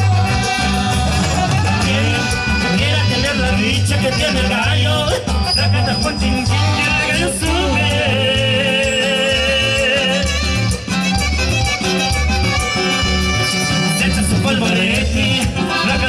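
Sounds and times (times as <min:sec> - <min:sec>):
live dance band music: 0:00.0 - 0:16.0.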